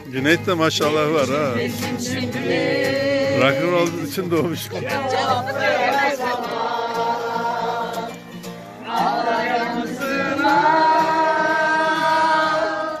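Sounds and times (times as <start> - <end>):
acoustic guitar: 0.0 - 13.0
group of people singing: 0.6 - 13.0.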